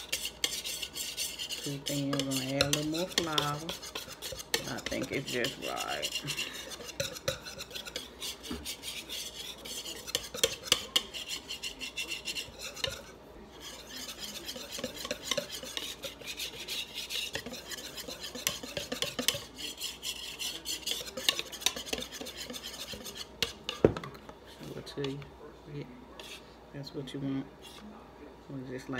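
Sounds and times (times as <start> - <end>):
whisk beating batter in bowl: 0.0 - 28.9.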